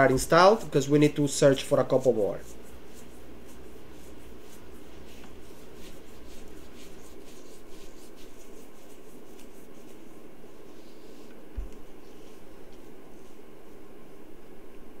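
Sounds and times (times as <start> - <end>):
low room tone hum: 0.0 - 15.0.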